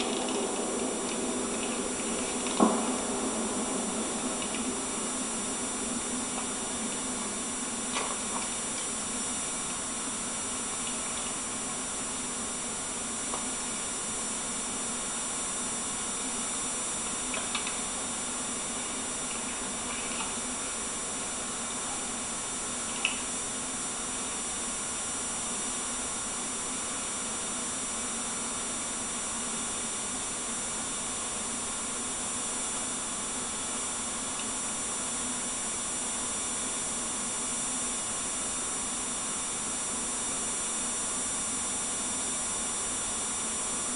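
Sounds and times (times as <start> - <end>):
faint high-pitched whines: 0.0 - 43.9
steady hiss and low hum: 0.0 - 43.9.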